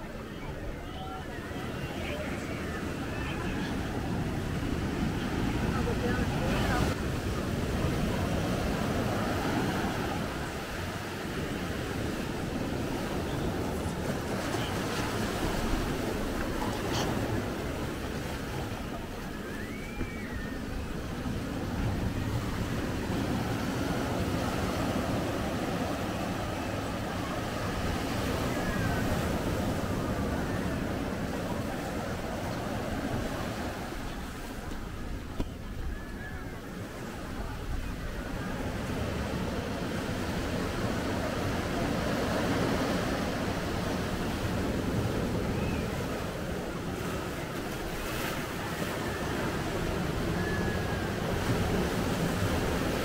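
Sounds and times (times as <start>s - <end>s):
sea waves washing on shore: 0.0s - 53.0s.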